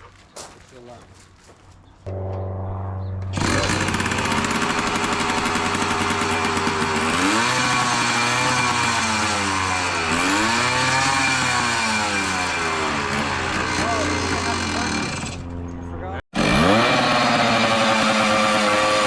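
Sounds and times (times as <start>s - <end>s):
dirt bike engine revving: 2.1s - 15.6s, 16.4s - 19.0s.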